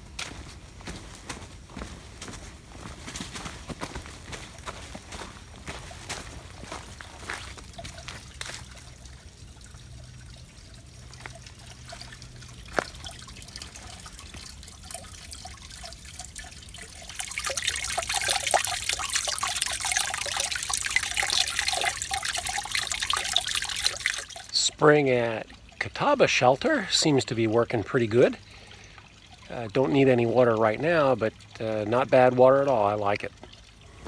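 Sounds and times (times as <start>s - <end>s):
water trickling and splashing: 0.0s - 34.0s.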